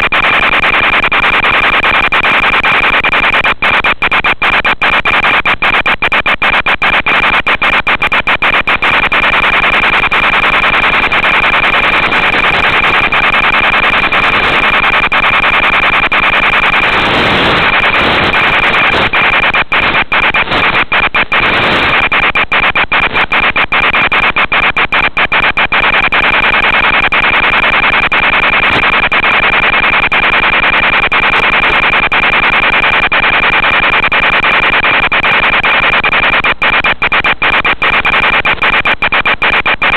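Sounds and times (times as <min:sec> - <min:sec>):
radio static hiss: 0:00.0 - 0:39.9
signal crackling: 0:00.0 - 0:39.9
steady high whine: 0:00.0 - 0:39.9.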